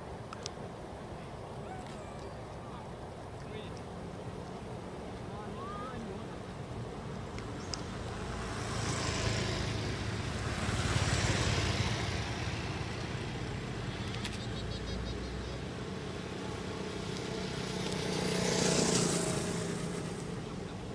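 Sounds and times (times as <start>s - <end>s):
motor vehicles passing by: 0.8s - 20.9s.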